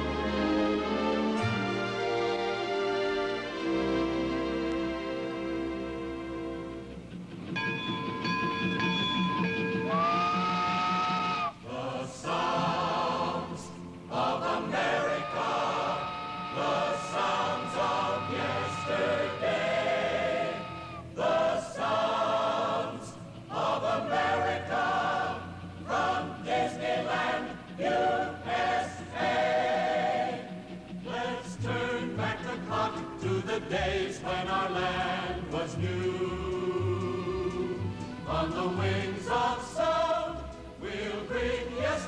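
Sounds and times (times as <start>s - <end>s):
choir singing in harmony: 0.0s - 7.0s, 7.8s - 42.0s
musical accompaniment: 0.0s - 42.0s.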